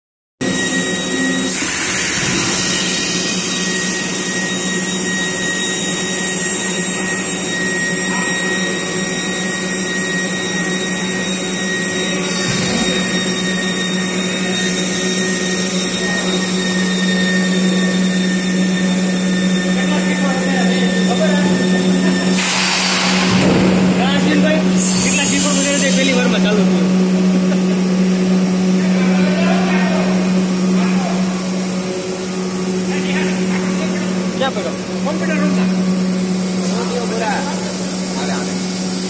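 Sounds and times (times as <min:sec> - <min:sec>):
machine humming and whirring: 0:00.4 - 0:39.0.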